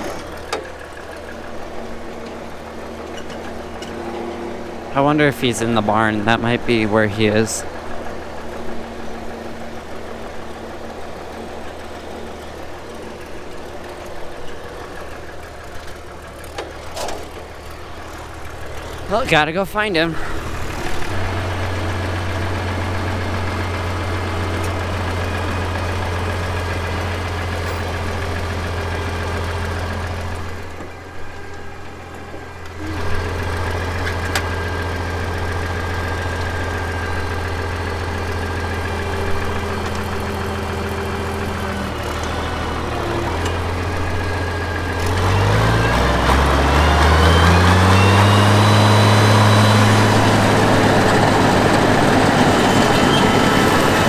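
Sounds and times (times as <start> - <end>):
vehicle engine idling and revving: 0.0 - 54.0.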